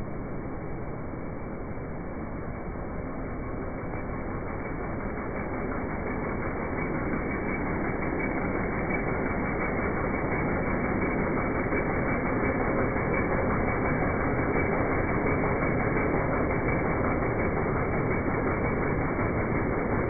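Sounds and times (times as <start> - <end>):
petrol engine running steadily: 0.0 - 20.0.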